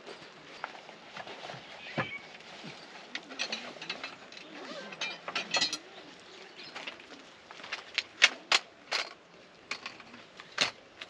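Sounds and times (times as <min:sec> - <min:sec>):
faint hiss of light rain: 0:00.0 - 0:11.0.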